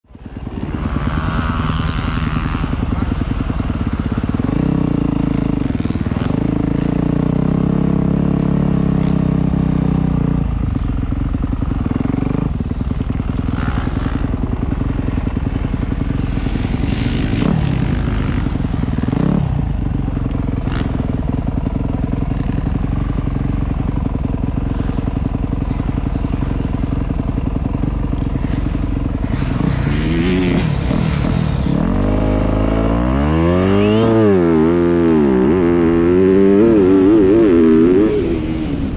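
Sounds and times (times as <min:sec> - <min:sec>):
motocross bike engine revving: 0:00.2 - 0:38.9.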